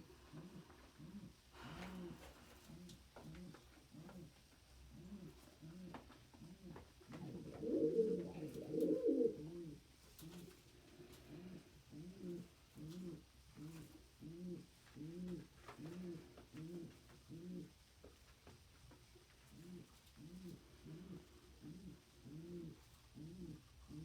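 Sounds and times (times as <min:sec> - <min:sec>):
pigeons cooing: 0:00.0 - 0:17.8, 0:19.5 - 0:24.0.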